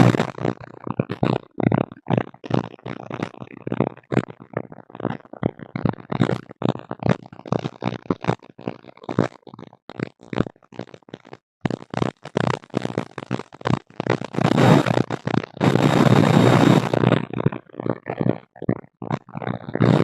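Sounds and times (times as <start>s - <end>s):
garbled voice-like interference: 0.0s - 4.2s, 5.0s - 20.0s.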